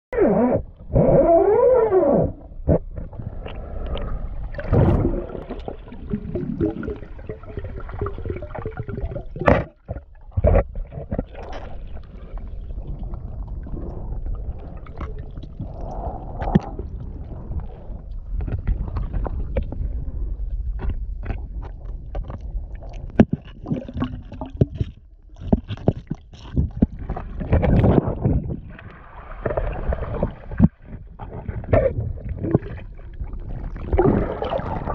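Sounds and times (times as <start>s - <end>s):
underwater gurgling and sloshing: 0.1s - 34.9s.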